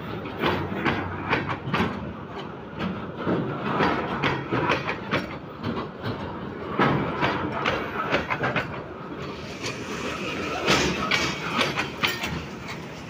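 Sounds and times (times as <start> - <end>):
freight wagons clattering over track: 0.0 - 13.0.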